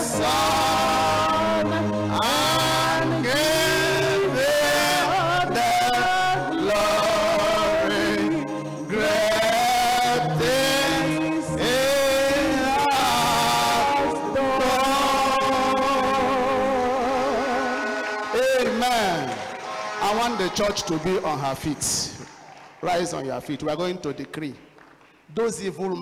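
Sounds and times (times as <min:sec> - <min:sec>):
person singing gospel melody: 0:00.0 - 0:22.4.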